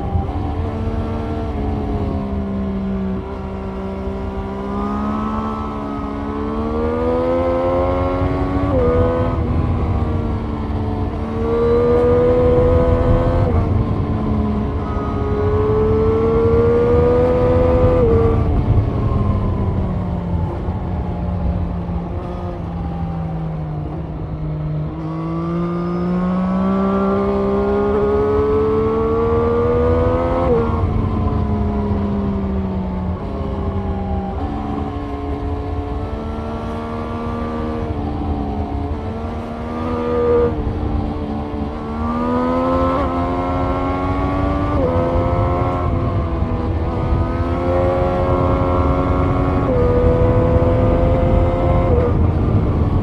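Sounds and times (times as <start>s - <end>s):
motorcycle engine revving: 0.0s - 53.0s
wind rumble on microphone: 0.0s - 53.0s.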